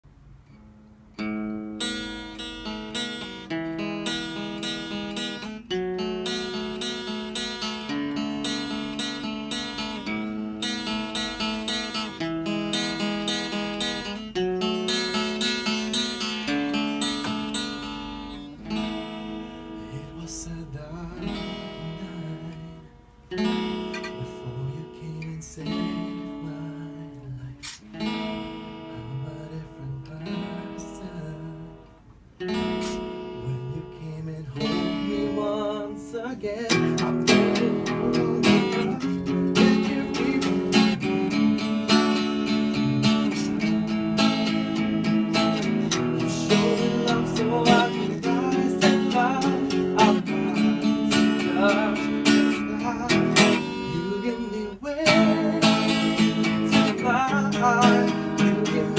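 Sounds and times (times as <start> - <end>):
acoustic guitar strumming: 0.0 - 58.9.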